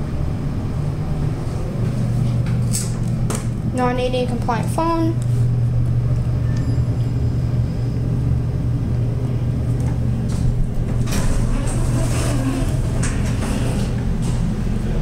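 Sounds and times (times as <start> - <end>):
elevator machinery hum: 0.0 - 15.0.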